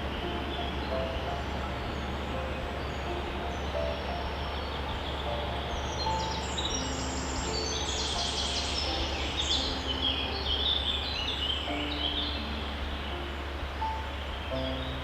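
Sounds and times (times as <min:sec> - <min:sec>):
birds chirping: 0:00.0 - 0:15.0
soft sustained low melody: 0:00.0 - 0:15.0
steady hiss: 0:00.0 - 0:15.0.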